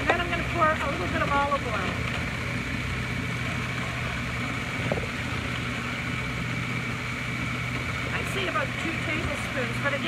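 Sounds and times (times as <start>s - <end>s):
food processor motor humming: 0.0s - 10.0s.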